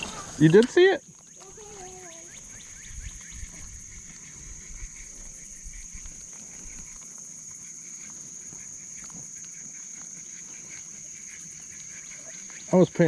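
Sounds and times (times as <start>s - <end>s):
frogs calling in rapid clicks: 0.0s - 13.0s.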